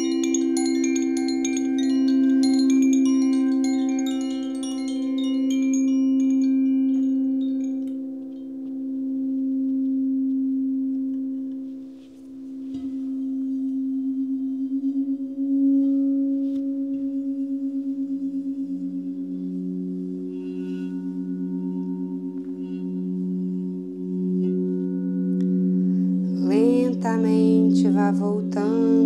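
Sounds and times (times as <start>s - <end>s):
high chiming tones: 0.0s - 29.0s
singing bowls low tone: 0.0s - 29.0s.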